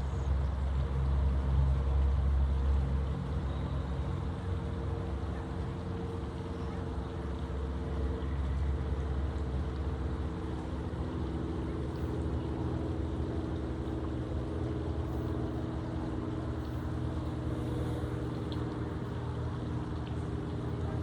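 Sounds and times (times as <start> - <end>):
motor engine hum: 0.0 - 21.0.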